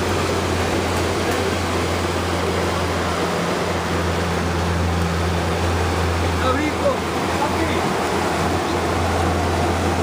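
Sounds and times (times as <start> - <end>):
outboard motor drone: 0.0 - 10.0
rush of water and air: 0.0 - 10.0.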